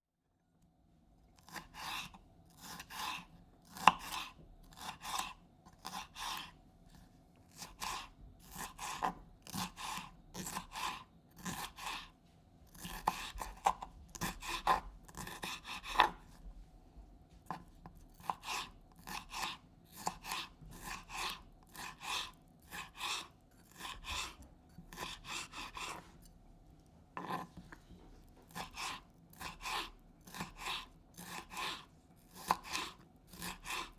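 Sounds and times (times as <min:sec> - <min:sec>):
knife chopping on cutting board: 0:01.5 - 0:06.5, 0:07.5 - 0:12.0, 0:12.7 - 0:16.4, 0:17.4 - 0:26.0, 0:28.5 - 0:33.9.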